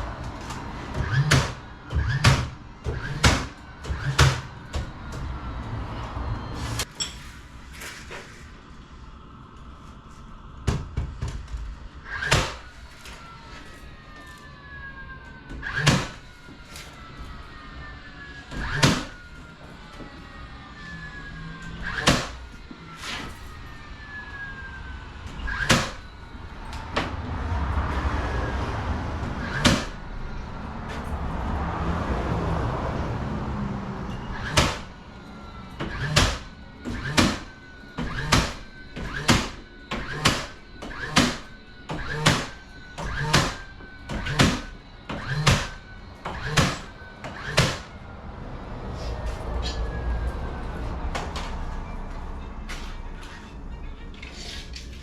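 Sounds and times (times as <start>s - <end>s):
steady background noise: 0.0s - 55.0s.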